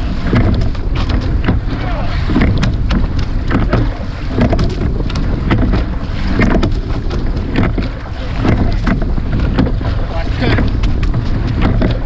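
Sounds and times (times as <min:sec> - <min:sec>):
oars splashing and knocking: 0:00.0 - 0:12.0
water rushing along hull: 0:00.0 - 0:12.0
wind on microphone: 0:00.0 - 0:12.0.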